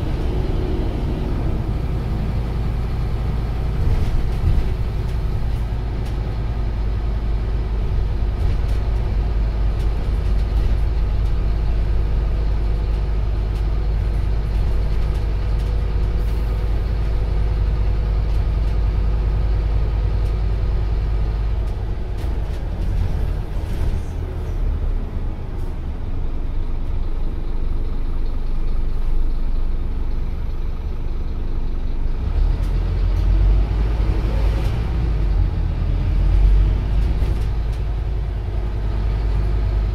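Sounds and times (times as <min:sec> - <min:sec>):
bus engine rumble: 0:00.0 - 0:39.9
road noise: 0:00.0 - 0:39.9.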